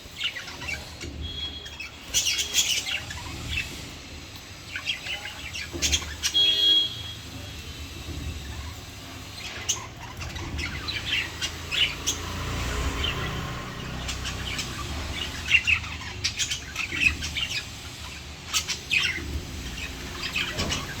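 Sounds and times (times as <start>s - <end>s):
lovebirds chirping: 0.0s - 7.5s, 8.3s - 21.0s.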